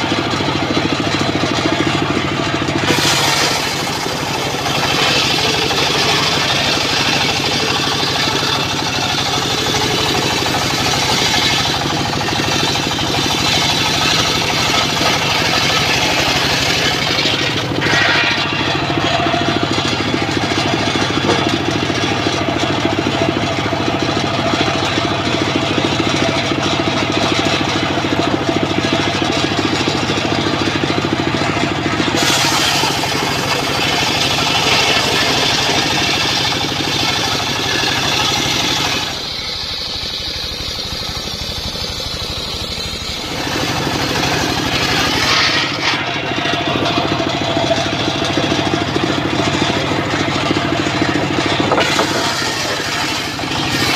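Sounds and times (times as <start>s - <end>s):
engine droning: 0.0s - 53.9s
saw blade cutting log: 0.0s - 53.9s.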